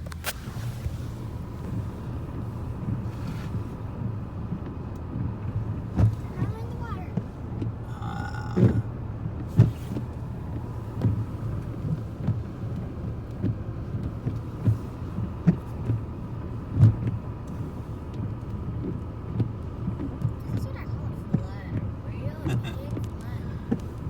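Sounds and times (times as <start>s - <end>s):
car cabin rumble: 0.0s - 24.0s.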